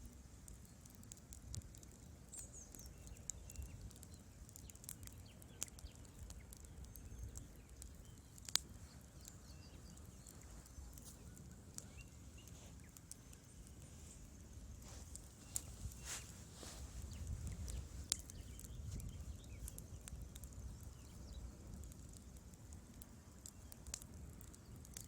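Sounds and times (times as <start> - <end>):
sharp pops of fire: 0.0 - 25.0
wood fire crackling: 0.0 - 25.0.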